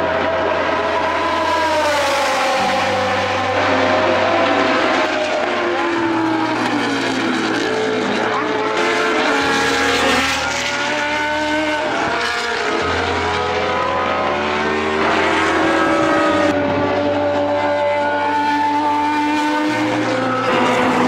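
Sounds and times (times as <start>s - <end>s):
racing car engines passing: 0.0s - 21.0s.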